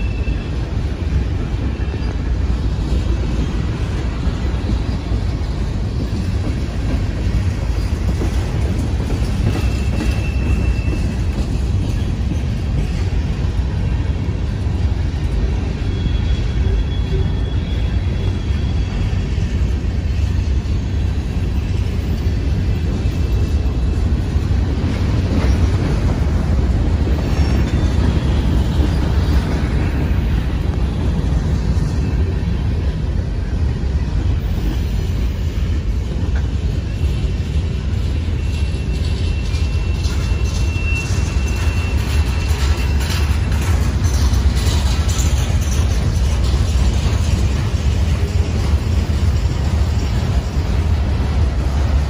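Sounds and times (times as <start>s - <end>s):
faint high wheel squeals: 0.0s - 52.0s
freight wheels rumbling on rail: 0.0s - 52.0s.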